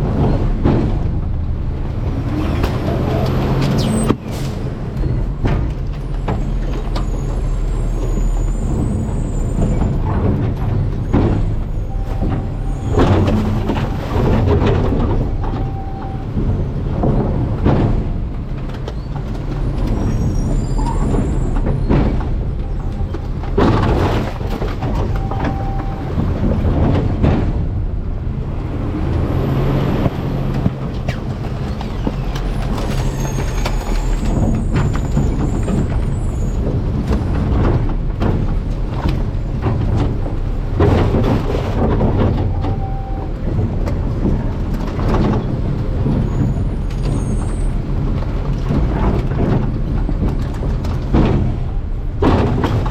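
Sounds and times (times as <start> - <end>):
garbage truck engine running: 0.0 - 52.9
trash knocking and crunching: 0.0 - 52.9.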